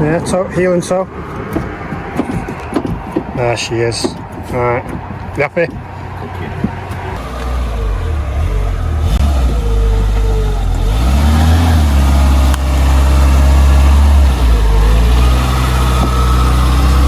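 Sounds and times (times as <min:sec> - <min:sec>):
car engine idling: 0:00.9 - 0:17.0.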